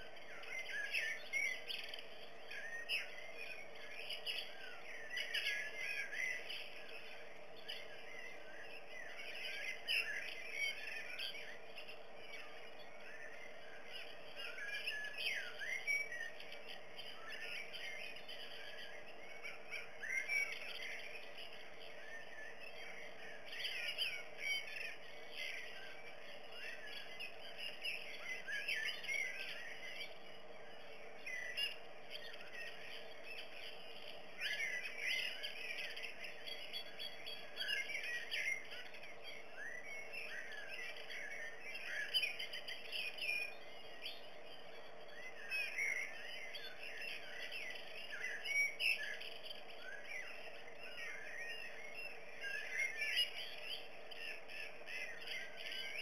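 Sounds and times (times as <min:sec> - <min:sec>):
faint steady hum: 0:00.0 - 0:56.0
small birds chirping: 0:00.0 - 0:56.0.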